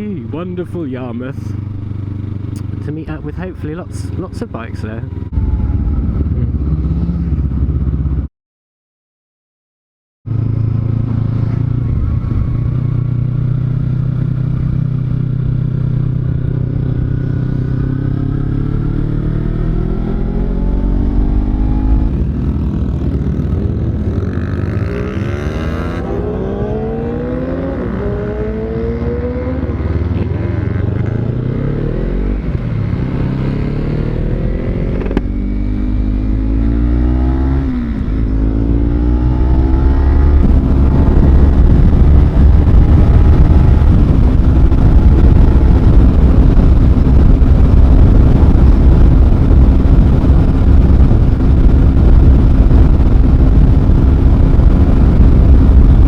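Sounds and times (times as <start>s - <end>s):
motorcycle engine accelerating: 0.0s - 8.3s, 10.3s - 56.0s.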